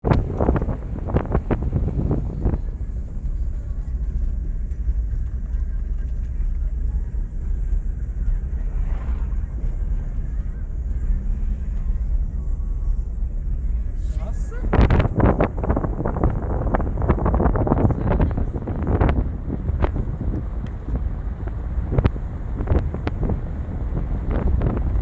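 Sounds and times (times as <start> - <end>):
car rumbling on the move: 0.0 - 25.0.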